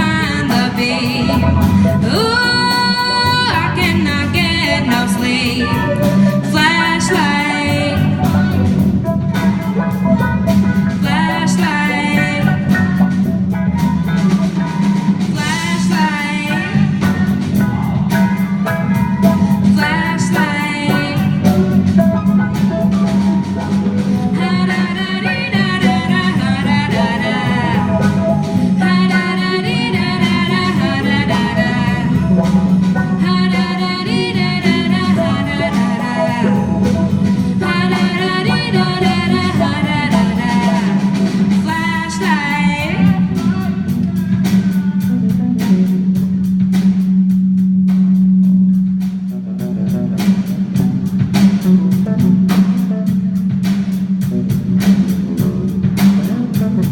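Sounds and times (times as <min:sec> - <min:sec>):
band playing guitar and drums: 0:00.0 - 0:56.9.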